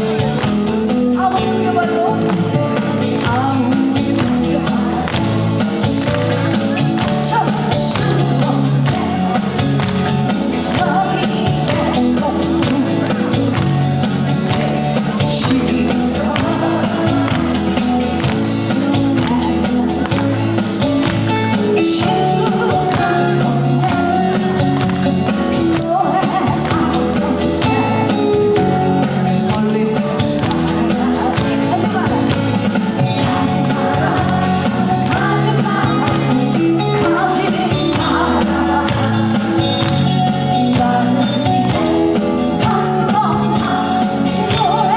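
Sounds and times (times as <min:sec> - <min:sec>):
song over a sound system: 0:00.0 - 0:44.9.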